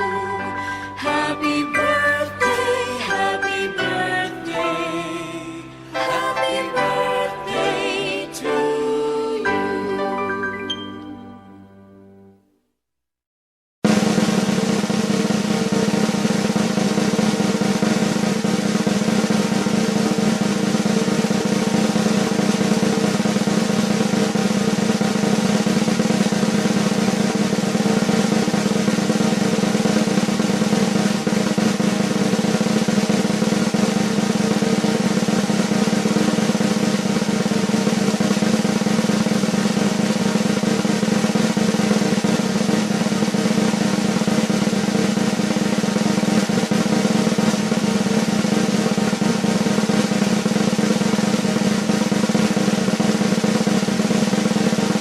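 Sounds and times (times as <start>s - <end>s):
snare drum roll: 0.0s - 8.8s, 13.8s - 55.0s.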